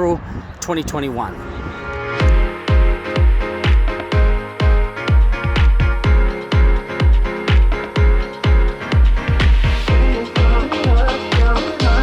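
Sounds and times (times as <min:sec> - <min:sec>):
electronic dance music: 0:02.1 - 0:12.0.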